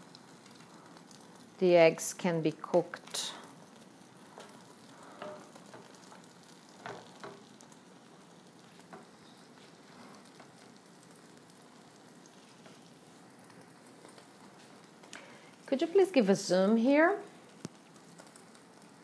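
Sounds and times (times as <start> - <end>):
eggs sizzling in a pan: 0.0 - 19.0.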